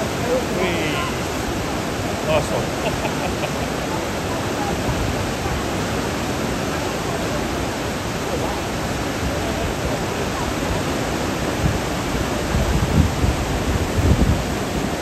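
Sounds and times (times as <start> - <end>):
white water rushing over weir: 0.0 - 15.0.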